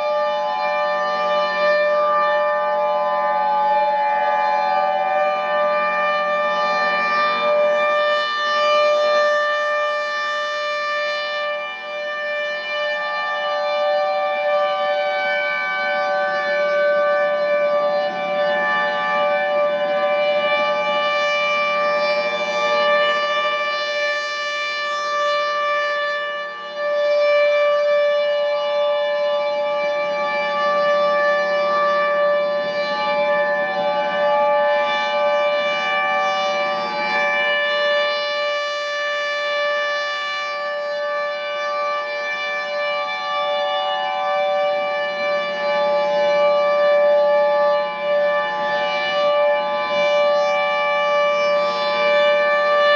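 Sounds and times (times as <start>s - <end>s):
warning sirens steady tone: 0.0s - 52.9s.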